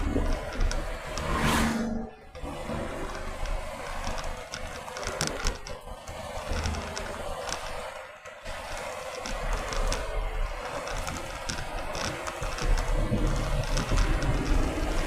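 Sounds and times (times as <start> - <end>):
car road and engine rumble: 0.0 - 15.0
light clicking rattles: 2.4 - 15.0.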